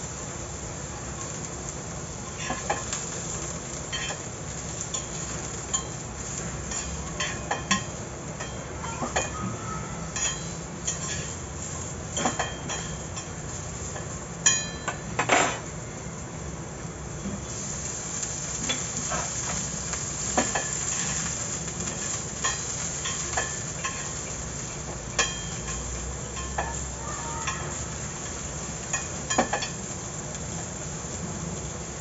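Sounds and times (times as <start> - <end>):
hot pan sizzling: 0.0 - 32.0.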